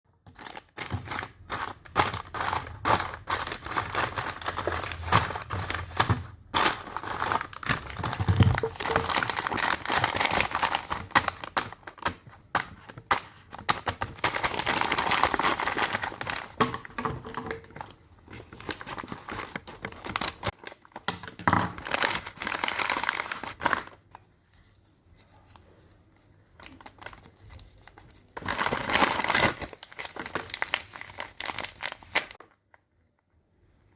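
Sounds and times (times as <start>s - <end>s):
packaging crinkling and tearing: 0.3s - 24.0s, 26.6s - 32.6s.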